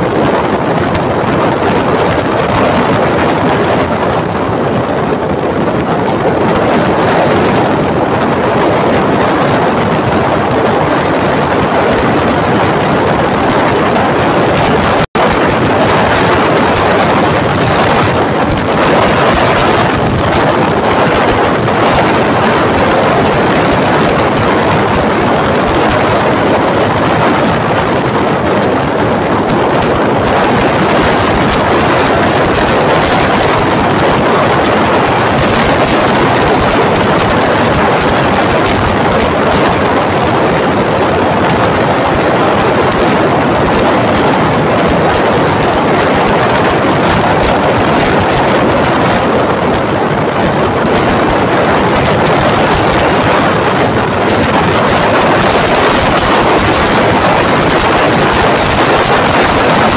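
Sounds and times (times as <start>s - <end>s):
motorcycle road noise: 0.0s - 59.9s
wind buffeting microphone: 0.0s - 59.9s
wind rushing: 0.0s - 59.9s.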